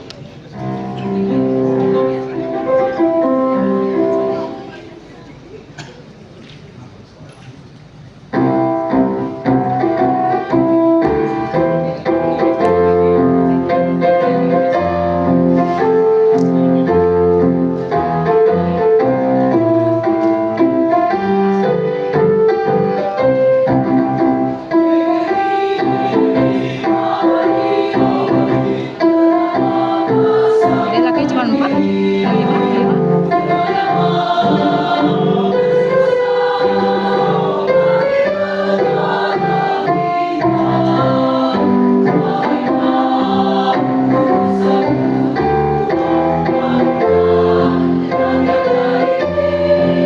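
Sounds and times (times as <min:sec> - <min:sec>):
piano playing chords and melody: 0:00.6 - 0:04.8, 0:08.4 - 0:50.0.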